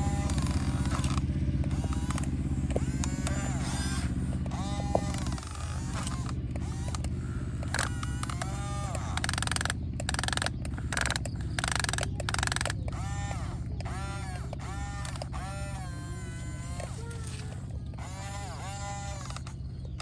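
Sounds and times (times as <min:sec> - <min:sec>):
mechanical hum: 0:00.0 - 0:20.0
short whines rising and falling: 0:00.0 - 0:20.0.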